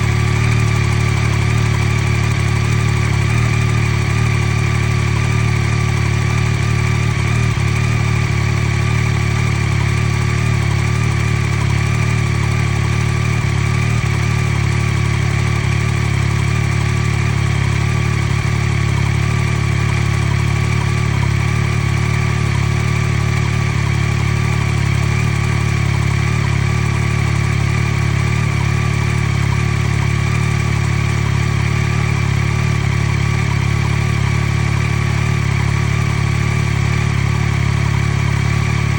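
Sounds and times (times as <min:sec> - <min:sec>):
engine ticking: 0:00.0 - 0:38.9
motorcycle engine idling: 0:00.0 - 0:38.9.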